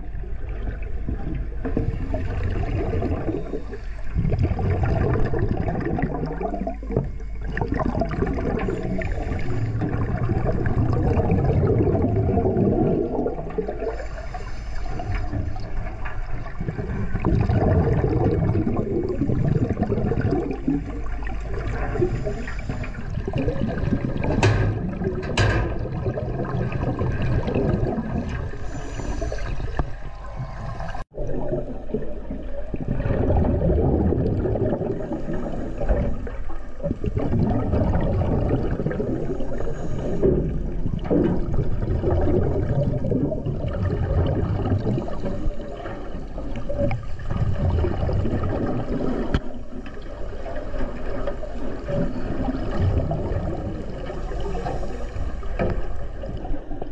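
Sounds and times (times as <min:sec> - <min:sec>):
underwater water rushing: 0:00.0 - 0:56.9
bubbling spurts: 0:00.7 - 0:49.6.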